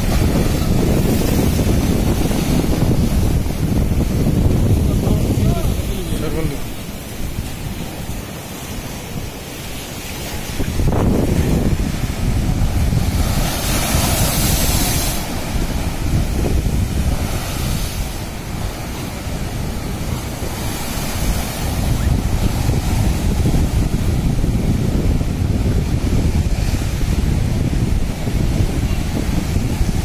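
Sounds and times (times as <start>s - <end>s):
surf breaking on seawall: 0.0s - 30.0s
wind buffeting microphone: 0.0s - 30.0s.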